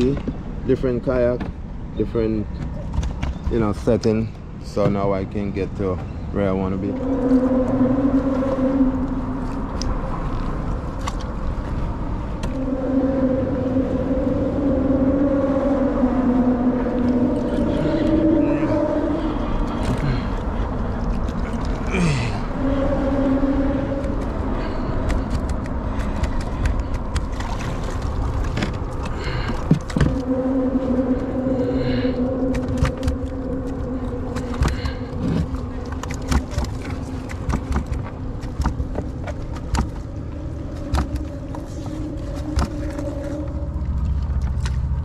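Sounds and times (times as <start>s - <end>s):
motorboat engine droning: 0.0s - 45.0s
rumble of wind and water: 0.0s - 45.0s.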